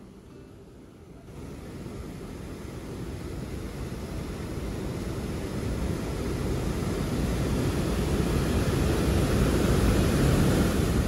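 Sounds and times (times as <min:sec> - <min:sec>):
river water over a weir: 0:00.0 - 0:11.0.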